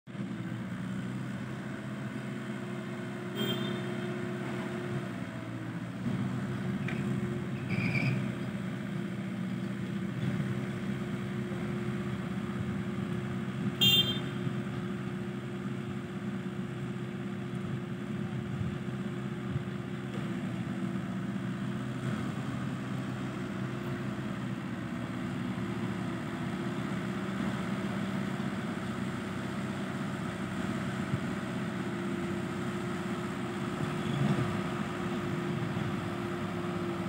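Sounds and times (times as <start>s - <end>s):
excavator diesel engine running: 0.1s - 37.0s.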